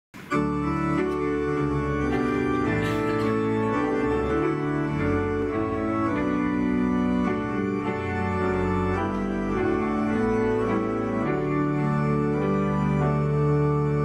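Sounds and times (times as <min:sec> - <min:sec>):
flute playing: 0:00.2 - 0:13.2
organ-toned keyboard chords: 0:00.2 - 0:14.0.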